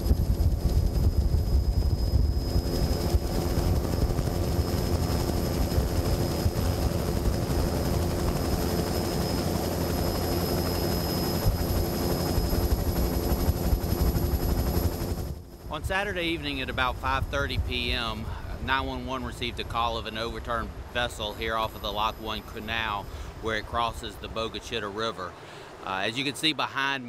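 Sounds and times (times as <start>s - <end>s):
helicopter rotor flutter: 0.0s - 26.0s
high turbine whine: 0.0s - 26.8s.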